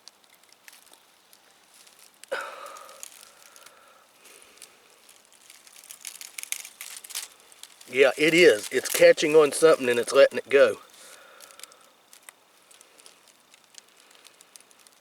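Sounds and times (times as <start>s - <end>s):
rope crackling and rustling: 0.0s - 15.0s.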